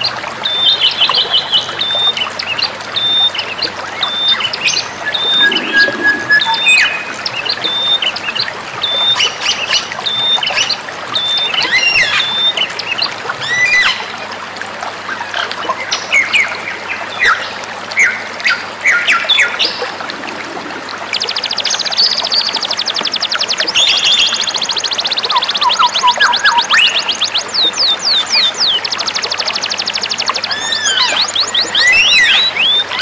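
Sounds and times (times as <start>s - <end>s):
songbirds singing: 0.0s - 14.2s, 15.2s - 33.0s.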